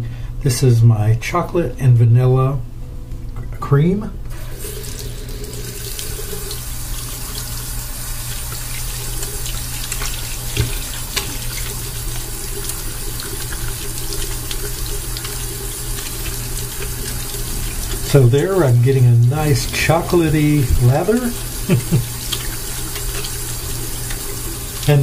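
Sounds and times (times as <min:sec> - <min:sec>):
faucet running into sink: 0:04.3 - 0:25.0
hands washing under water: 0:04.4 - 0:25.0.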